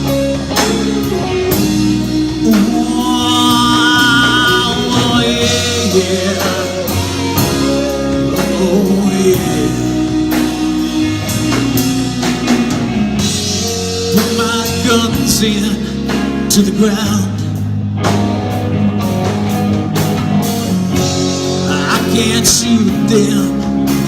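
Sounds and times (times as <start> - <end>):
live rock band playing: 0.0 - 24.0
wavering lead melody: 0.0 - 24.0.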